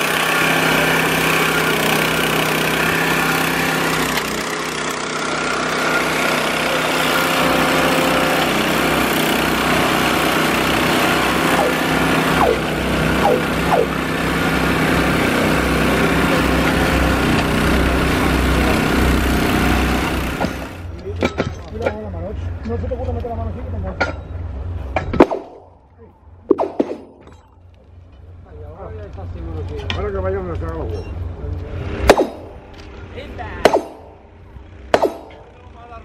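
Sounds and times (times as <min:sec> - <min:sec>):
small engine running: 0:00.0 - 0:21.0, 0:28.0 - 0:36.0.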